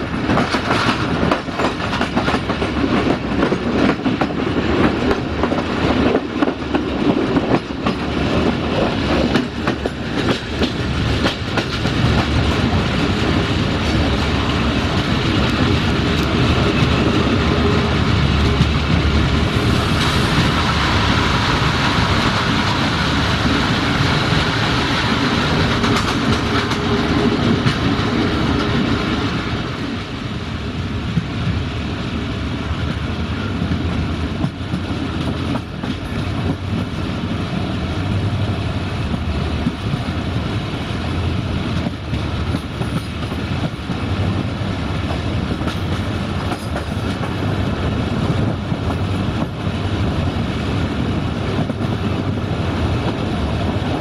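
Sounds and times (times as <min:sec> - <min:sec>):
clickety-clack over rail joints: 0:00.0 - 0:54.0
train wheels rumbling on rails: 0:00.0 - 0:54.0.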